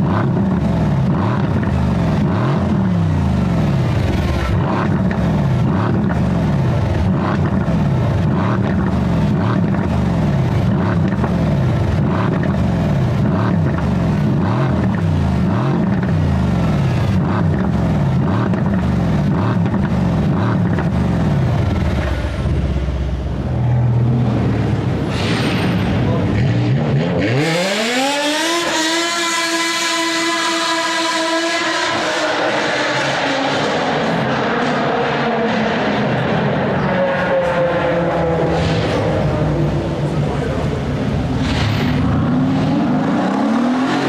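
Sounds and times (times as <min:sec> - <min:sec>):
car engine and exhaust: 0:00.0 - 0:44.0.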